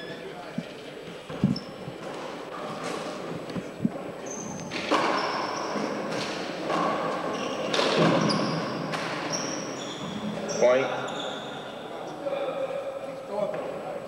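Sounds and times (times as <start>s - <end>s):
shoes squeaking on floor: 0.0s - 12.2s.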